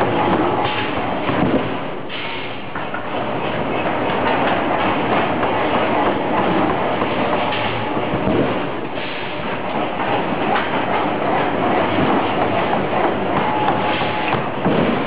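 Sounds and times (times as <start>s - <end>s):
forging machinery clattering and rumbling: 0.0s - 15.0s.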